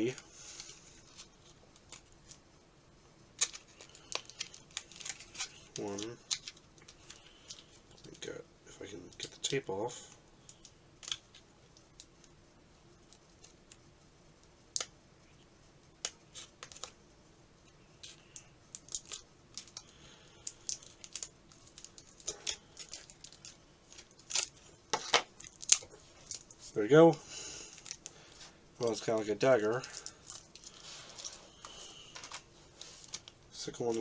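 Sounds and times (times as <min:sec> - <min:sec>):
light clicks and crinkles: 0:00.0 - 0:02.5, 0:03.4 - 0:17.0, 0:17.6 - 0:34.0.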